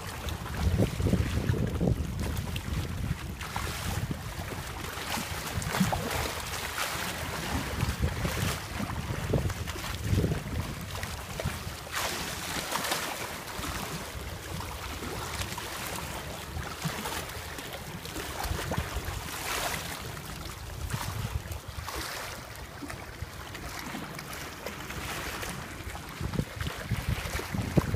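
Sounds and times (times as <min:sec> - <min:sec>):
sea water lapping on rocks: 0:00.0 - 0:27.9
wind rumbling on microphone: 0:00.0 - 0:27.9.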